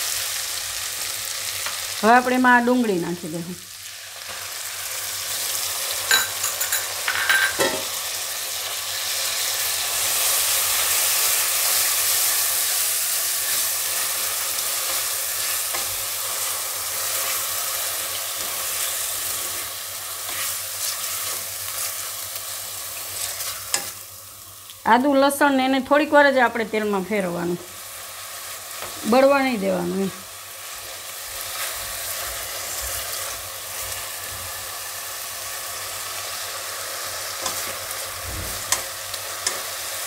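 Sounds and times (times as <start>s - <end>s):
onion sizzling in hot oil: 0.0s - 40.0s.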